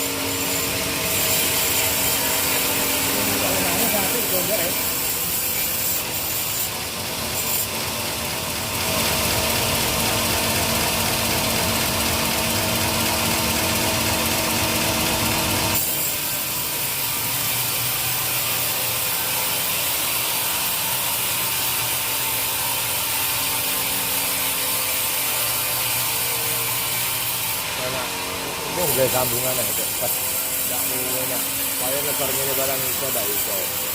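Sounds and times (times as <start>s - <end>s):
sawmill saw cutting wood: 0.0s - 33.9s.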